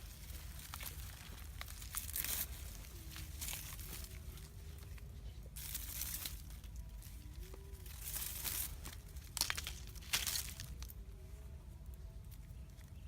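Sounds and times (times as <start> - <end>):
rustling crackling noise: 0.0 - 13.0.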